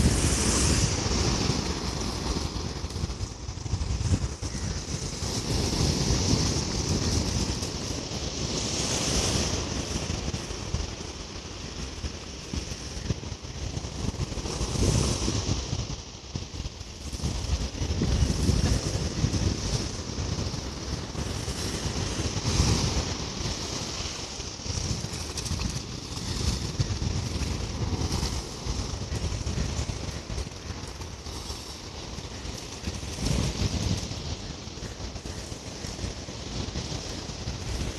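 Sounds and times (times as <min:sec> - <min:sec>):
ocean surf washing: 0:00.0 - 0:37.9
wind buffeting microphone: 0:00.0 - 0:37.9.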